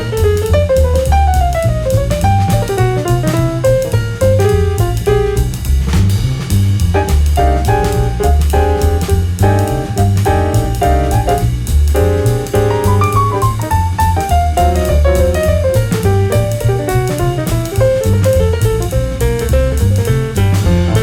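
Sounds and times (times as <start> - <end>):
jazz piano bass and drums: 0.0 - 21.0.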